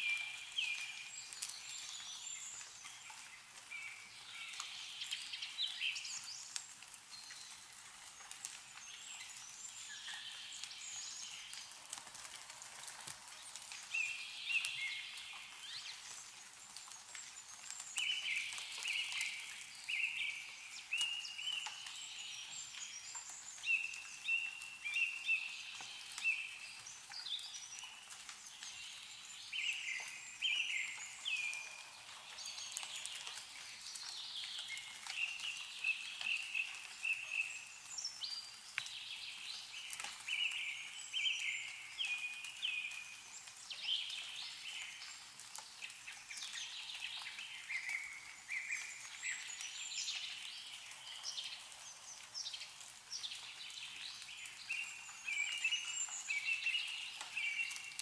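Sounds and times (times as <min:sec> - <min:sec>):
songbirds singing: 0:00.0 - 0:11.9, 0:13.4 - 0:58.0
water dripping from trees: 0:00.0 - 0:58.0.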